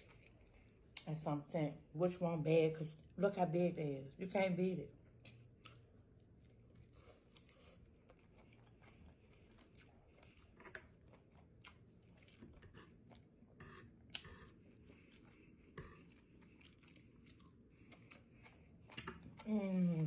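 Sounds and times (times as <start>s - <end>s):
chewing food: 0.0s - 1.2s, 5.0s - 20.0s.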